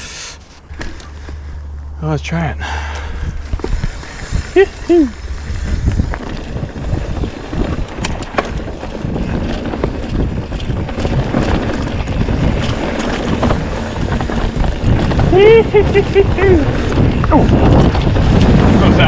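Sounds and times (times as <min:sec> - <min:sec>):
bike clicks and rattles: 0:00.1 - 0:01.9, 0:02.8 - 0:19.0
bike rolling on dirt trail: 0:00.1 - 0:19.0
wind buffeting microphone: 0:02.6 - 0:19.0.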